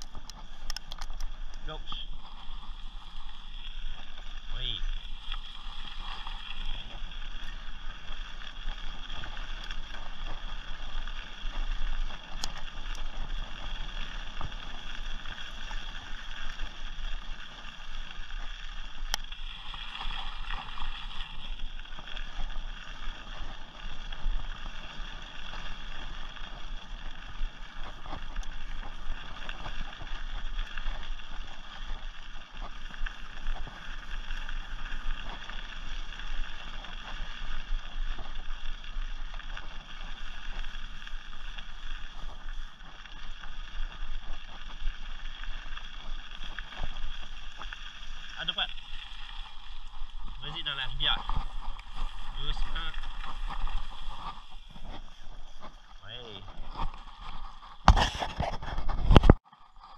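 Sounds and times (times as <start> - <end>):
bike tyres on dirt trail: 0.0 - 59.9
bike jolts and rattles: 6.5 - 19.5, 20.7 - 59.4.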